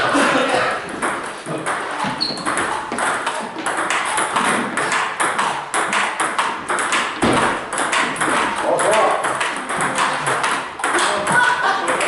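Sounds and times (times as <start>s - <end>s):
table tennis balls clicking: 0.8s - 12.0s.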